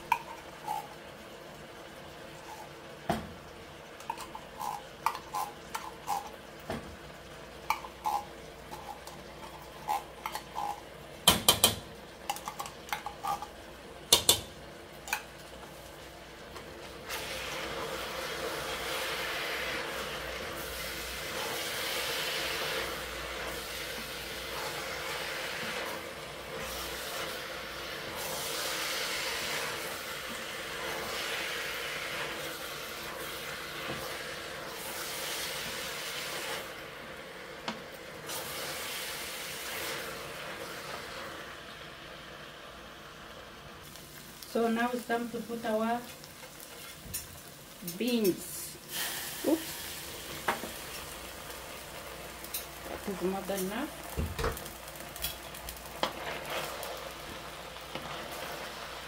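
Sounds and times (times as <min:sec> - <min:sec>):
vegetables sizzling: 0:00.0 - 0:59.0.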